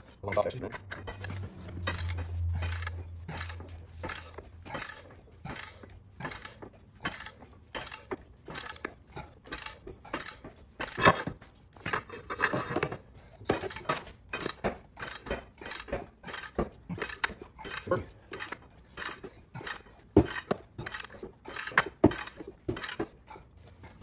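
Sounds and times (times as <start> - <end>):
ratchet clicking: 0.0 - 11.9, 13.5 - 23.1.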